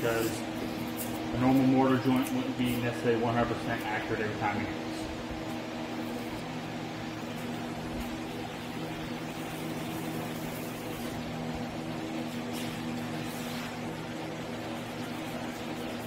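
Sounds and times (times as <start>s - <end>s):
large fans humming: 0.0s - 16.0s.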